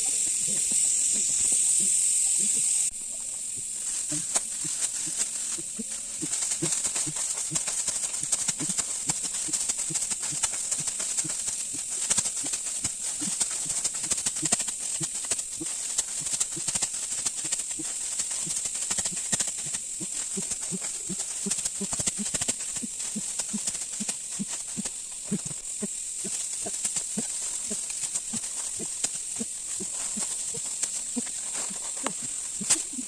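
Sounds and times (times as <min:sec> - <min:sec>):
dry rice stalks rustling: 0:03.0 - 0:33.0.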